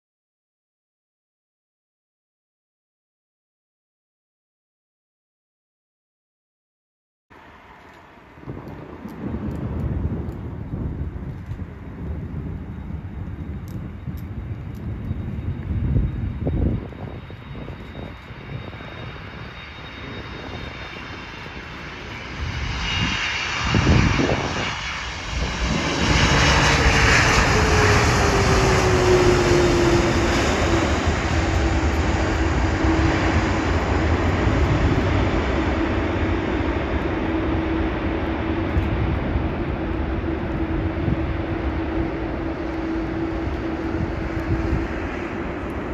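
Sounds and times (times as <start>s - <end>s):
jet engines roaring: 7.4s - 45.9s.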